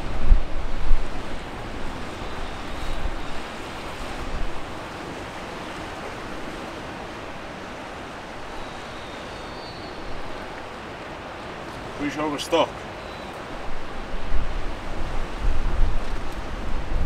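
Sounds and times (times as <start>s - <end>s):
wind rumbling on microphone: 0.0s - 12.0s, 12.9s - 17.0s
sea washing around pier: 0.0s - 17.0s.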